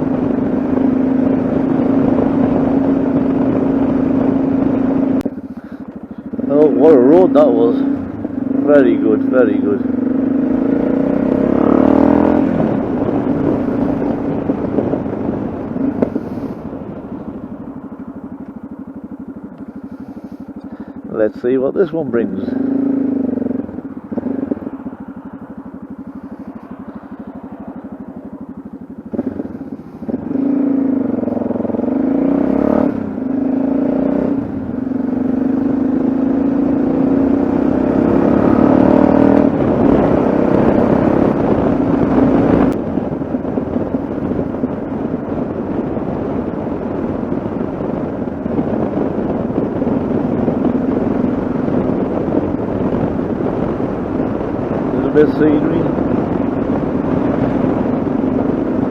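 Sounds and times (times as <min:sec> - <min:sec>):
motorcycle engine revving through gears: 0:00.0 - 0:58.9.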